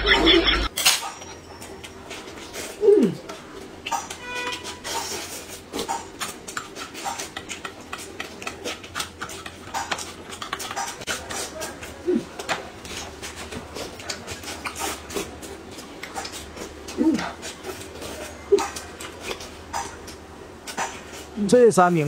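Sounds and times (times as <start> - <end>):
crunching and chewing food: 1.4 - 21.4.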